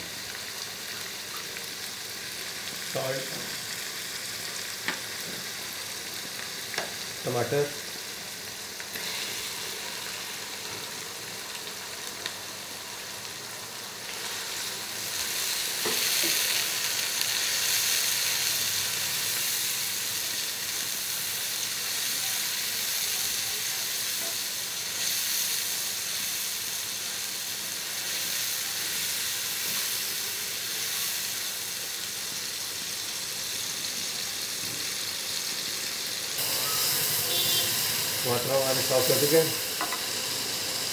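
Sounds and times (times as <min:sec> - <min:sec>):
tomatoes sizzling in hot oil: 0:00.0 - 0:40.9.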